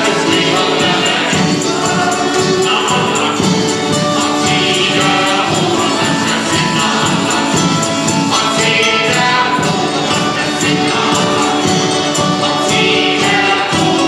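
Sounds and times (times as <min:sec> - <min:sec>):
group of people singing: 0:00.0 - 0:14.0
tambourine jingling: 0:00.0 - 0:14.0.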